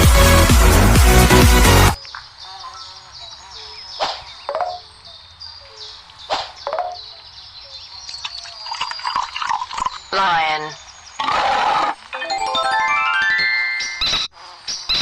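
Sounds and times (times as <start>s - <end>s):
birds chirping: 1.8s - 15.0s.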